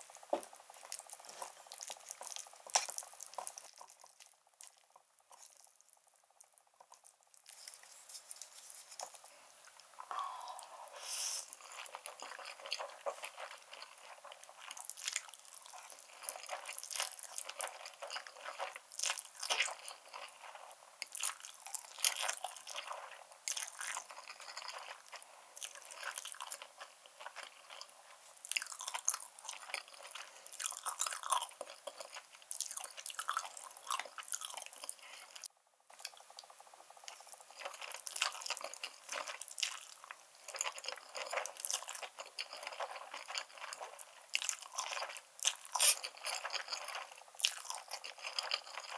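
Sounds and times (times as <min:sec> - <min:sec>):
person chewing noodles: 0:00.0 - 0:48.9.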